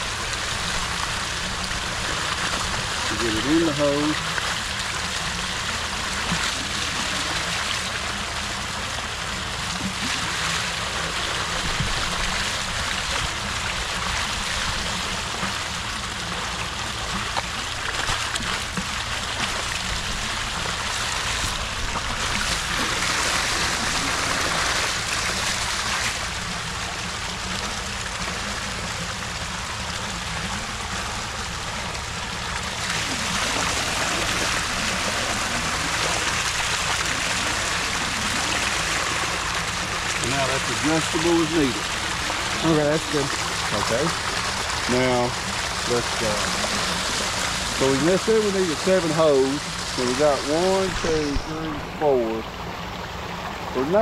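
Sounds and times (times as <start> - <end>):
low steady rumble: 0.0 - 54.0
water gushing and splashing: 0.0 - 54.0.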